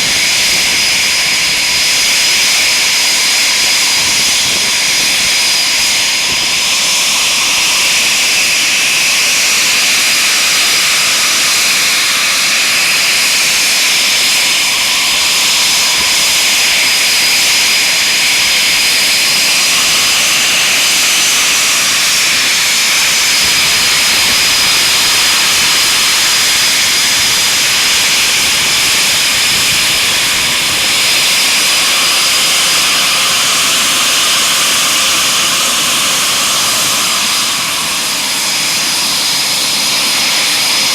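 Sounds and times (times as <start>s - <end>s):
jet engines idling whine: 0.0s - 40.9s.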